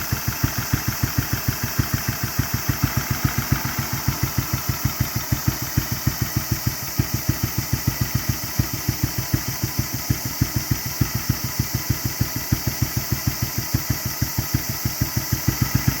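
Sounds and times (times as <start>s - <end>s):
single-cylinder engine idling: 0.0s - 16.0s.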